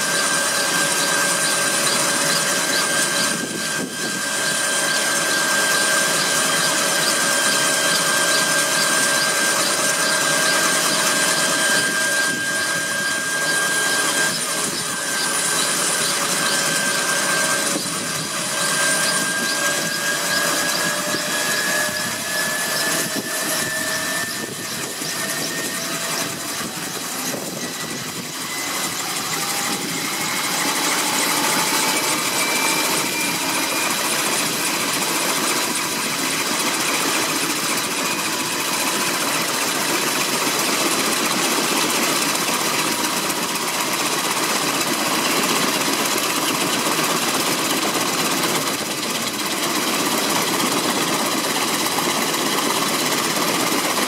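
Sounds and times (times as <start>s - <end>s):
helicopter engine whine: 0.0s - 54.0s
helicopter rotor noise: 0.0s - 54.0s.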